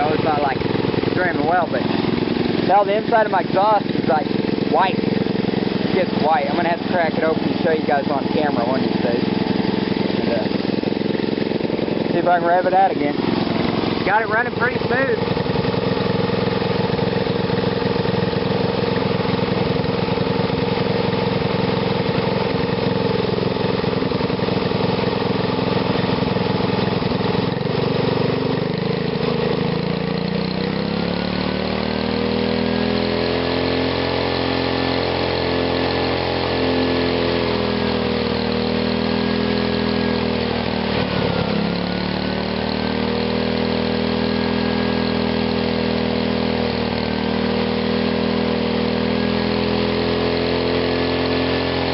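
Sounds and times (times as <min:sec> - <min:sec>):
small gasoline engine running: 0:00.0 - 0:51.9.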